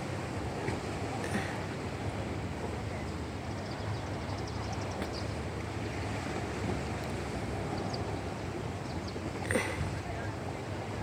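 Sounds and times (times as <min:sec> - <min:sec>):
boat engine hum: 0:00.0 - 0:11.0
water: 0:00.0 - 0:11.0.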